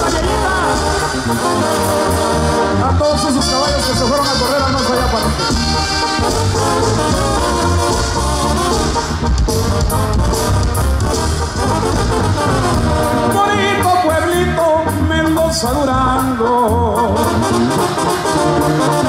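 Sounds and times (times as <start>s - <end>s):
song with brass and singing: 0.0s - 19.0s.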